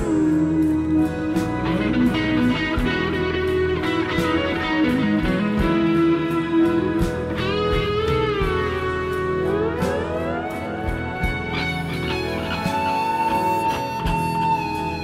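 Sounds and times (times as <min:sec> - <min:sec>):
guitar instrumental with steady beat: 0:00.0 - 0:15.0.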